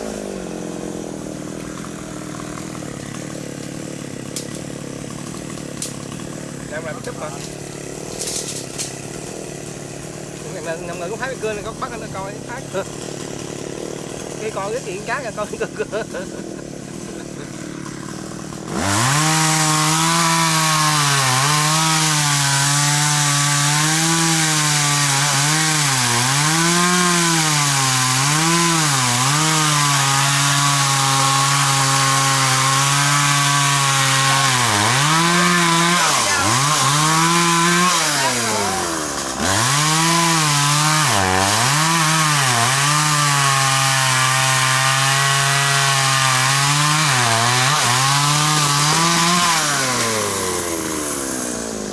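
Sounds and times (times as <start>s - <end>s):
chainsaw cutting tree: 0.0s - 51.9s.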